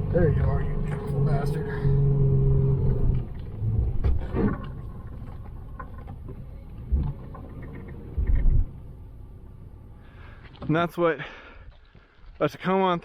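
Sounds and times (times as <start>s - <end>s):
truck engine rumbling: 0.0s - 10.6s.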